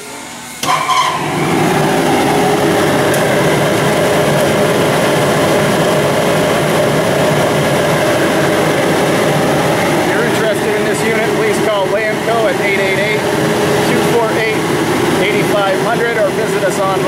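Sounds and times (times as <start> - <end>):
blower air rush: 0.0 - 17.0
motor hum: 0.6 - 17.0.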